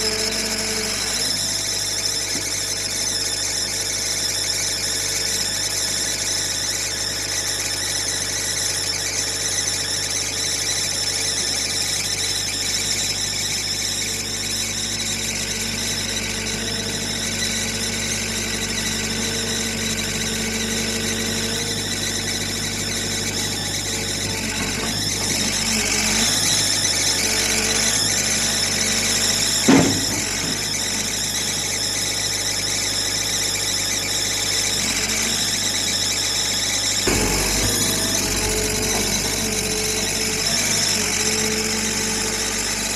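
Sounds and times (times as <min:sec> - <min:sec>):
backhoe loader engine running: 0:00.0 - 0:42.9
high-pitched squealing whine: 0:00.0 - 0:42.9.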